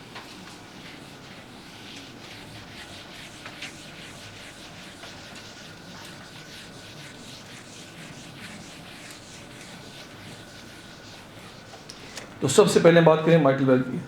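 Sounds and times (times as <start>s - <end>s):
writing strokes: 0.0s - 12.4s
background hiss: 0.0s - 14.0s.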